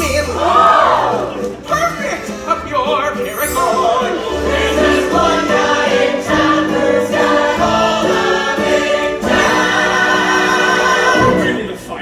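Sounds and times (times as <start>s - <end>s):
orchestral accompaniment: 0.0s - 12.0s
chorus singing: 0.3s - 1.4s, 3.2s - 12.0s.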